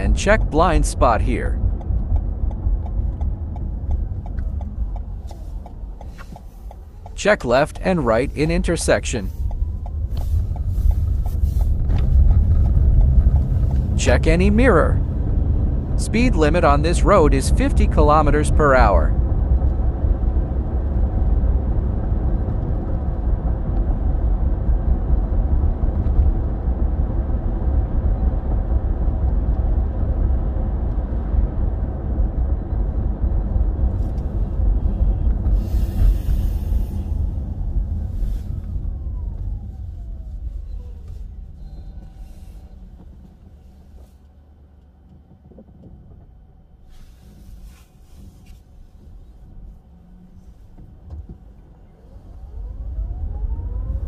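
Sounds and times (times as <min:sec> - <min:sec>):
car road and tyre noise: 0:00.0 - 0:54.0.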